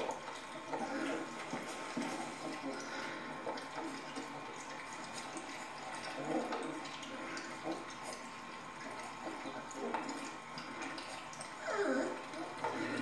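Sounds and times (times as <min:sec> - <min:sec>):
puppies lapping and chewing: 0:00.0 - 0:13.0.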